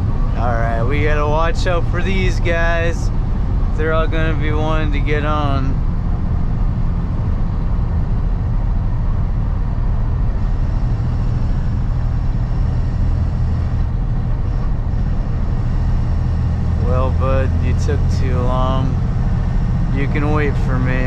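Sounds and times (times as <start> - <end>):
truck engine and road rumble: 0.0 - 21.0.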